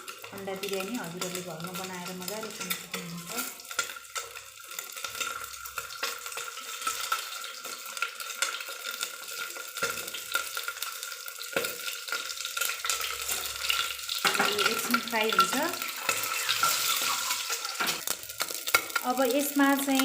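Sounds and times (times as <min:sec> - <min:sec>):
eggs sizzling in hot oil: 0:00.0 - 0:20.0.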